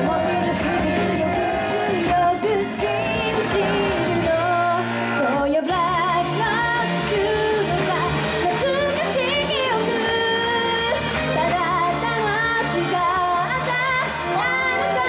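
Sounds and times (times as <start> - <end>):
recorded backing music: 0.0 - 15.0
woman singing into microphone: 0.0 - 15.0.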